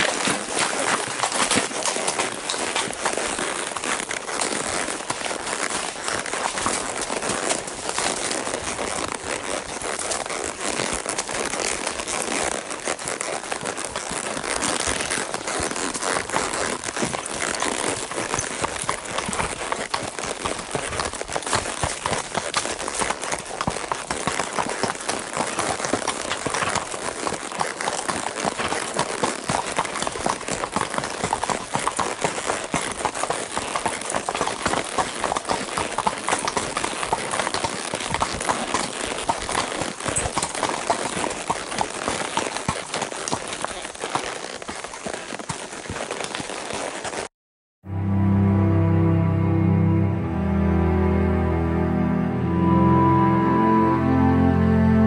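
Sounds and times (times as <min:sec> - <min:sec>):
hooves clip-clopping on gravel: 0:00.0 - 0:47.3.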